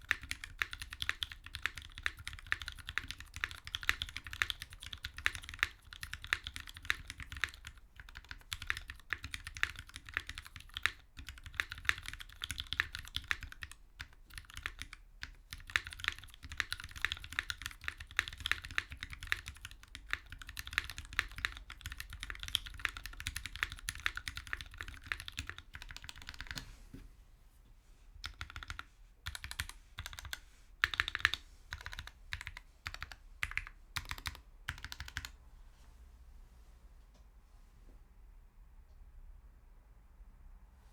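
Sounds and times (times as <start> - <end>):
mechanical keyboard typing: 0.0 - 26.6, 28.2 - 35.4.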